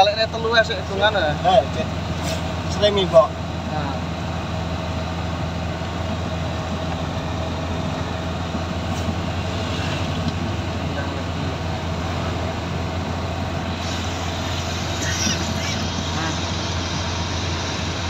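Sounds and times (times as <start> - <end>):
car engine drone: 0.0 - 18.0.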